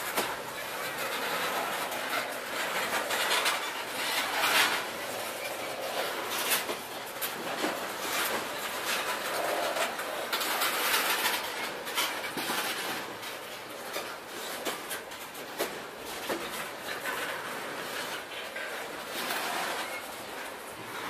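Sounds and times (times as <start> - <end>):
train wheels clicking and clanking: 0.0 - 21.0.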